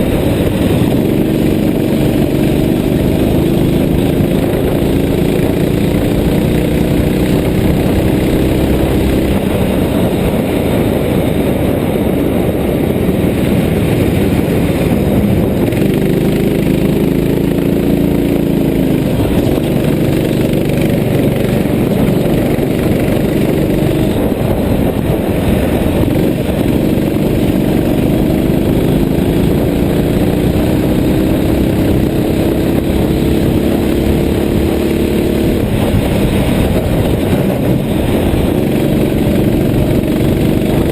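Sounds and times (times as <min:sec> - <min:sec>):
kart engine accelerating: 0:00.0 - 0:40.9.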